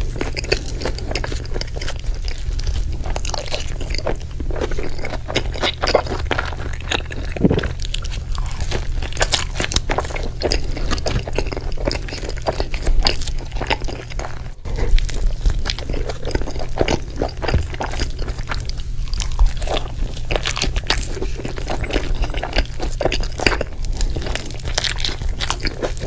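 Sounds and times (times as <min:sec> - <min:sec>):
burger being chewed: 0:00.0 - 0:26.0
steady low hum: 0:00.0 - 0:26.0.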